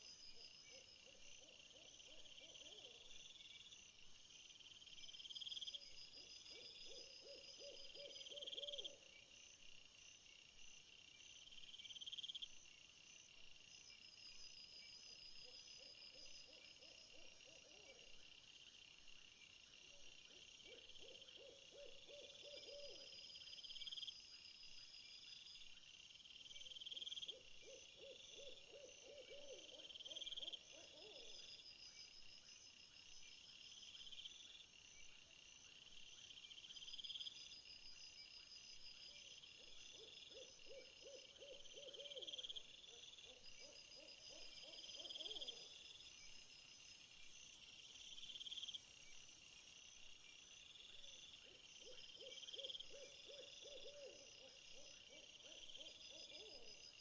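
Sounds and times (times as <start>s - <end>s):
insects chirping: 0.0s - 57.0s
low rapid insect trill: 0.0s - 57.0s
high steady insect buzz: 8.1s - 57.0s.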